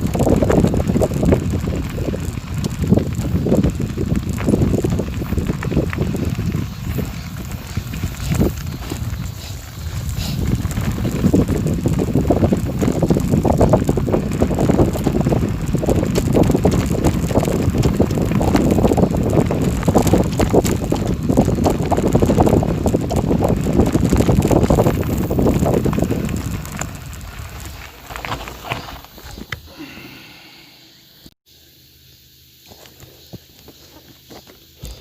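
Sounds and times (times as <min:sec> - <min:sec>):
wind buffeting microphone: 0:00.0 - 0:29.6
crackling and rattling of movement: 0:00.0 - 0:29.7.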